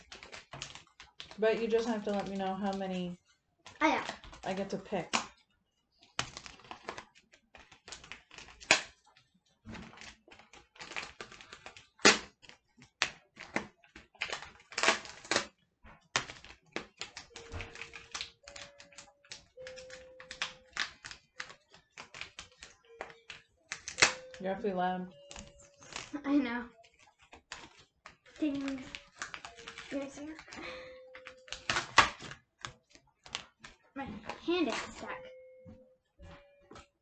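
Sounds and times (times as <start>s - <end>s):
plastic packets crinkling: 0.0s - 37.0s.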